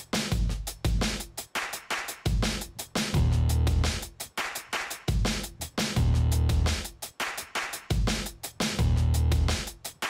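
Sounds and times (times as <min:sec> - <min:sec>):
music with deep bass and drums: 0:00.0 - 0:10.0.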